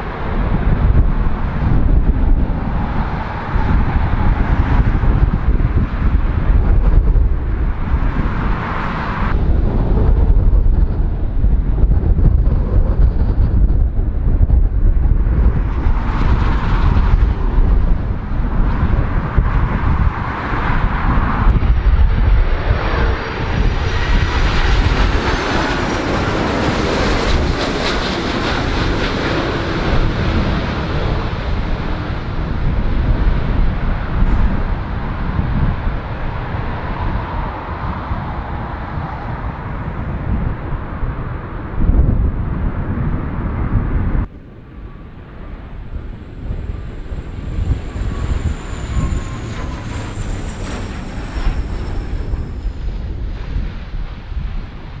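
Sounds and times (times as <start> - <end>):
jet engine whine: 0.0 - 55.0
strong wind buffeting microphone: 0.0 - 55.0.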